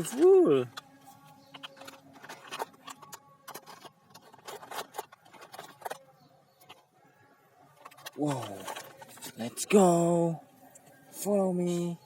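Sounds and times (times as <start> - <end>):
plastic toys clicking and scraping: 0.0 - 11.8.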